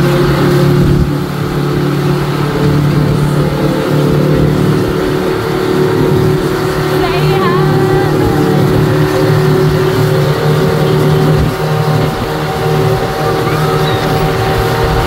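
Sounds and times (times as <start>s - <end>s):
speedboat engine droning: 0.0s - 15.0s
wake water rushing: 0.0s - 15.0s.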